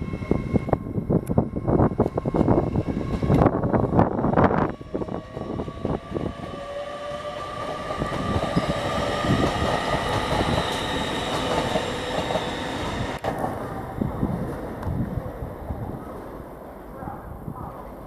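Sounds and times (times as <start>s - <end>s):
train wheels rumbling on rails: 0.0s - 17.7s.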